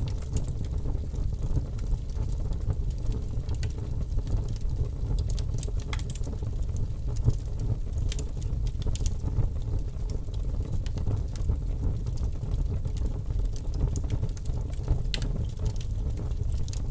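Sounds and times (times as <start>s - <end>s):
fire flames rumbling: 0.0s - 16.9s
wood fire popping and crackling: 0.0s - 16.9s.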